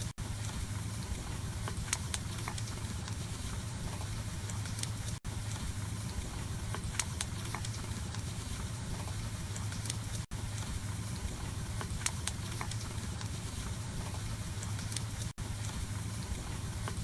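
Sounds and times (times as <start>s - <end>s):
wood burning in a stove: 0.0s - 17.0s.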